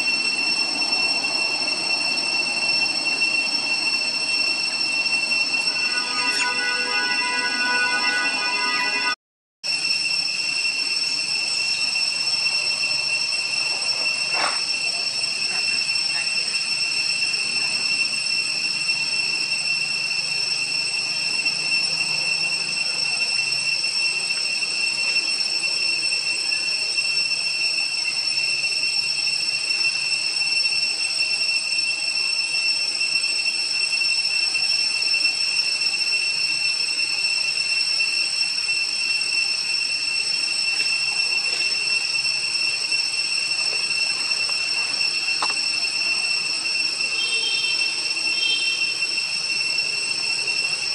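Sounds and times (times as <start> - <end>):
insect chorus drone: 0.0 - 9.1, 9.7 - 50.9.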